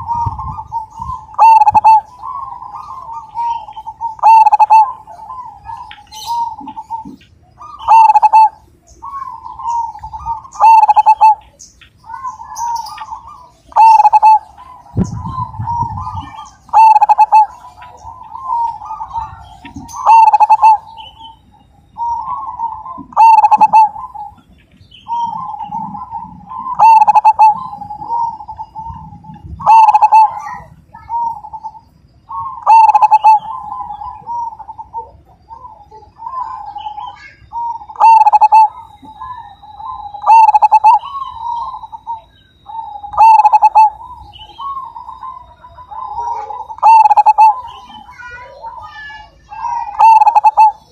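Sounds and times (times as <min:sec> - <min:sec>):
dove cooing: 0:00.0 - 0:50.9.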